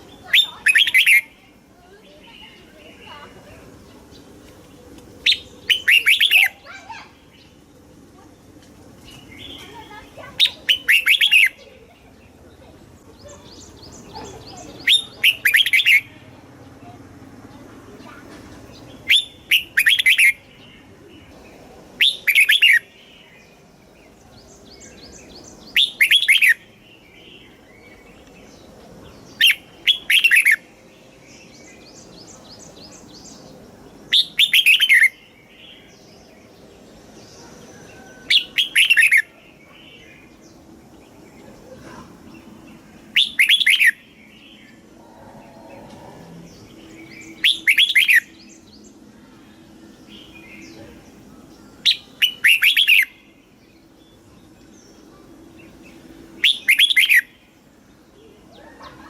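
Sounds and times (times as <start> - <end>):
bird singing loud song: 0.0 - 59.0
quiet bird chirps: 0.0 - 59.0.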